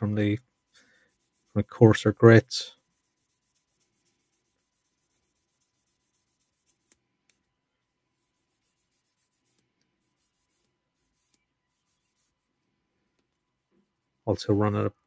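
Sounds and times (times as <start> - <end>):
buffing stick rubbing on plastic: 0.0 - 7.4, 8.2 - 14.7.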